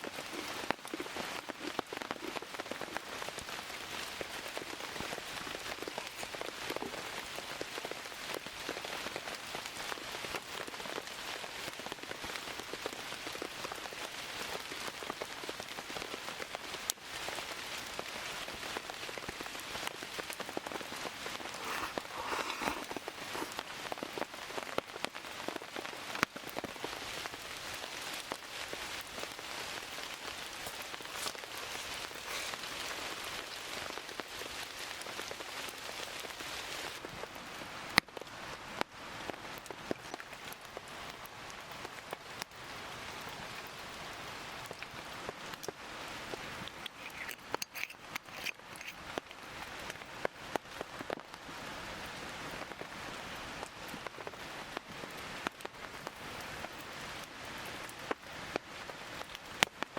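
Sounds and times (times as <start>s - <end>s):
rain pattering: 0.0s - 59.9s
sharp drips and ticks: 0.1s - 51.3s.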